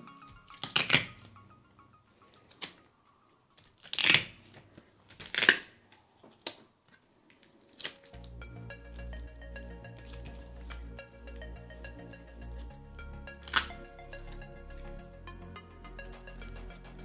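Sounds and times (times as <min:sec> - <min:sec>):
soft background music: 0:00.0 - 0:04.6, 0:07.5 - 0:17.0.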